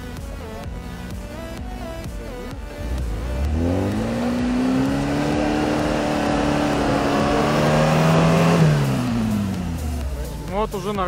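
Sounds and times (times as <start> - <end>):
off-road vehicle engine revving: 0.8 - 10.5.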